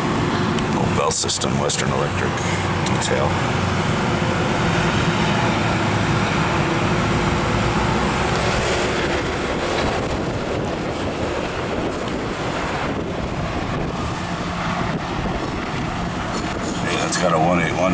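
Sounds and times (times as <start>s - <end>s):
rushing street noise: 0.0s - 17.9s.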